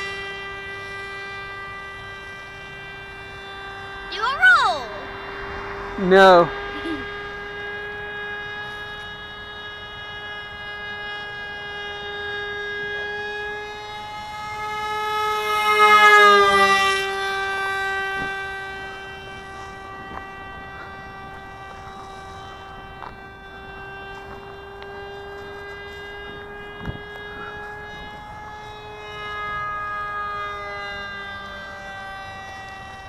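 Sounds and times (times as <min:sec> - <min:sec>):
model airplane motor whining: 0:00.0 - 0:33.0.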